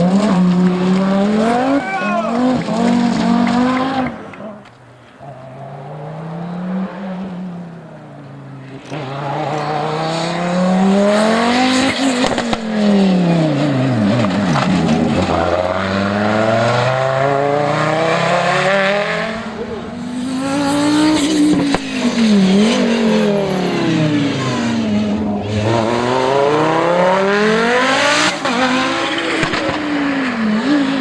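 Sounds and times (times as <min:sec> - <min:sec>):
race car engine at hard throttle: 0:00.0 - 0:31.0.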